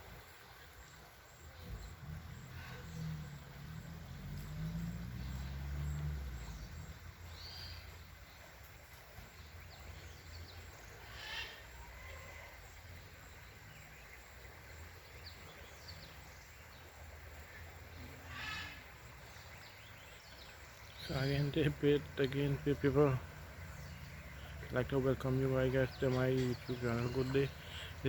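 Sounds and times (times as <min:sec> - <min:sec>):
low engine rumble: 0:01.4 - 0:11.0, 0:13.9 - 0:28.0.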